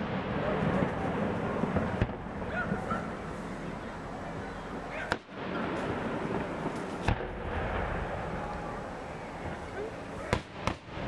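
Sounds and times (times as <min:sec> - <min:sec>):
firework bang: 0:00.0 - 0:03.8, 0:04.7 - 0:11.0
crowd chatter: 0:00.0 - 0:11.0.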